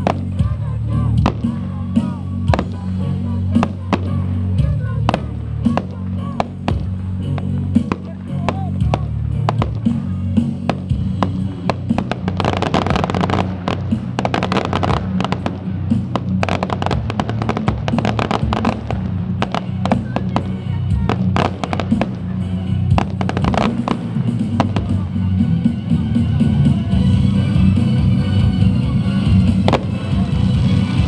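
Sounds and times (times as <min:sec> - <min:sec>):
fireworks bangs and crackles: 0:00.0 - 0:31.0
loud music with bass: 0:00.0 - 0:31.0.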